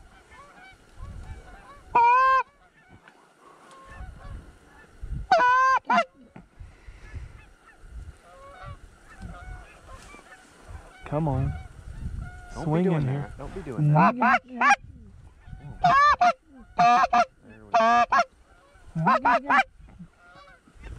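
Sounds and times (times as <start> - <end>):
geese honking and clucking: 0.0 - 20.9
goose call honks: 0.3 - 3.1, 3.8 - 6.2, 7.4 - 14.8, 15.4 - 20.6.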